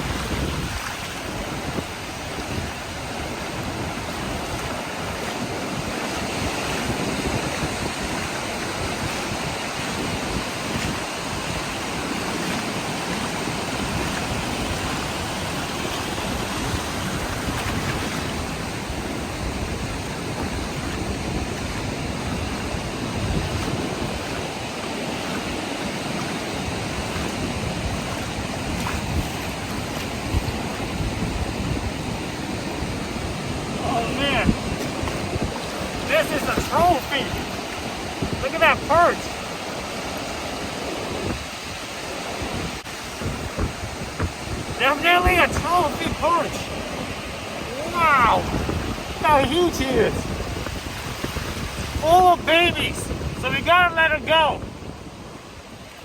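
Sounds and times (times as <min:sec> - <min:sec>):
ocean surf washing ashore: 0:00.0 - 0:56.0
wind gusting on microphone: 0:00.0 - 0:56.0.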